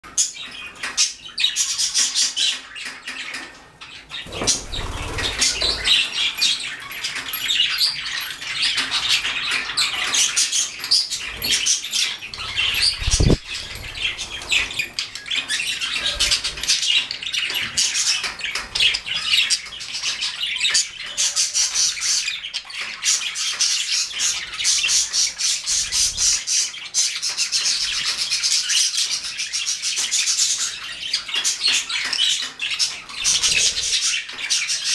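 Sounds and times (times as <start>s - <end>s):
budgerigars chattering and warbling: 0.1s - 34.9s.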